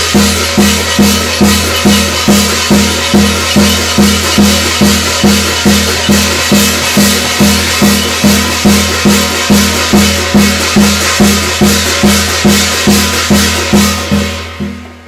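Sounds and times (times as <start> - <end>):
cymbals: 0.0 - 15.0
drum beaten evenly: 0.0 - 15.0.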